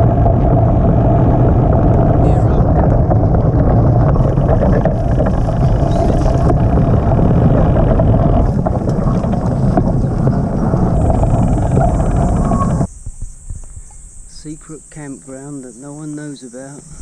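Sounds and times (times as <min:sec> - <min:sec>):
wind rushing over microphone: 0:00.0 - 0:14.7
road rumble: 0:00.0 - 0:17.0.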